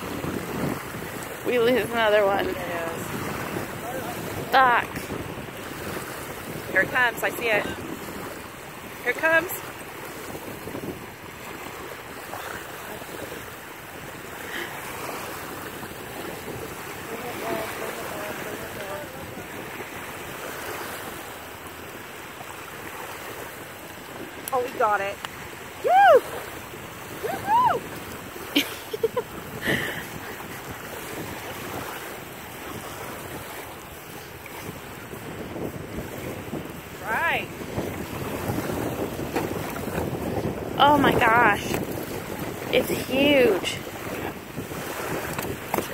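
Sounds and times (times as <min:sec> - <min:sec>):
small waves lapping on shore: 0:00.0 - 0:45.9
wind on microphone: 0:00.0 - 0:45.9.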